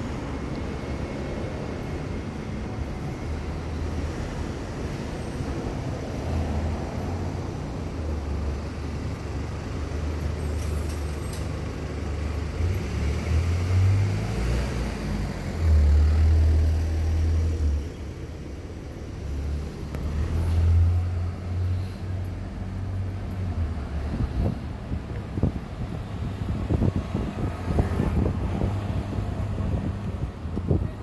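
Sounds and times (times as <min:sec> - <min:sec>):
street traffic: 0:00.0 - 0:31.0.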